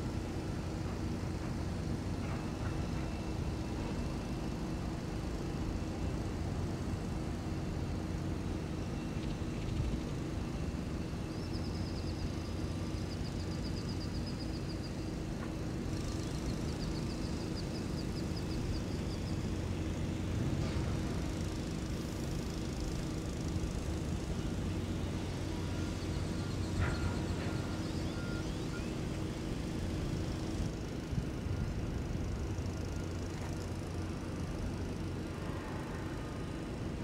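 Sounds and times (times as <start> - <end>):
heavy engines humming: 0.0 - 37.0.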